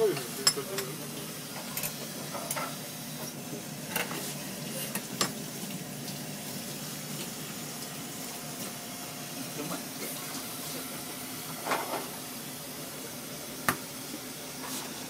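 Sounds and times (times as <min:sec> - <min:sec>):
steady kitchen hiss: 0:00.0 - 0:15.0.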